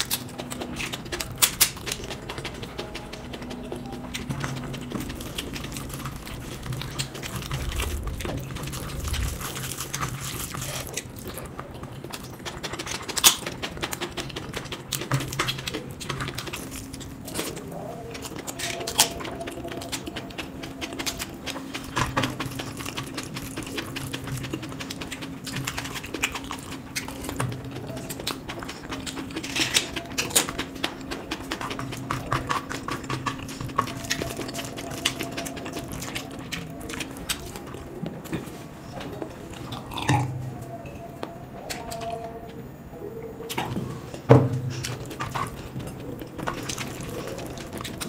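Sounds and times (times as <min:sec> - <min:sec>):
chewing and mouth smacking: 0:00.0 - 0:48.0
faint steady hum: 0:00.0 - 0:48.0.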